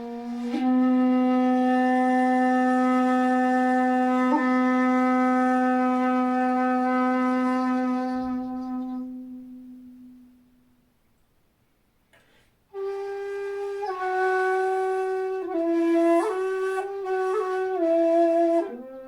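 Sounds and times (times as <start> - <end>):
bamboo flute long low note: 0.0 - 10.5, 12.7 - 19.0.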